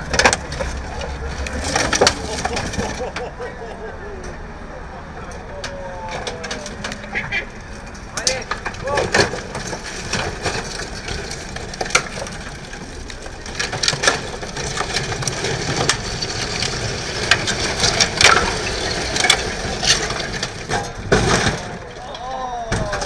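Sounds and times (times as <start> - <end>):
wrecked car bodywork grinding on pavement: 0.0 - 23.0.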